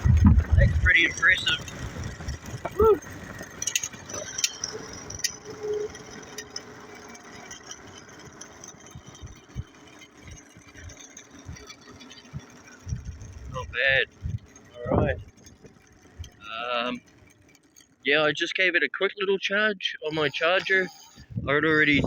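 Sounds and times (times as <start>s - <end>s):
electric bike drive rumble: 0.0s - 22.0s
faint motor whine: 0.0s - 22.0s
sharp rattles: 0.0s - 22.0s
wind: 0.0s - 22.0s.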